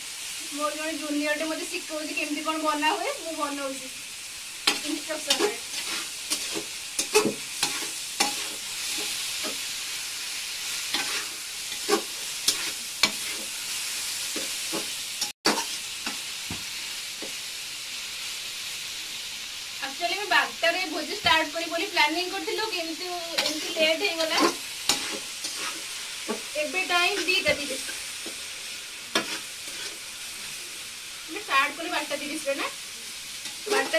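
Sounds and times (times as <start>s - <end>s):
tomatoes sizzling in oil: 0.0s - 33.9s.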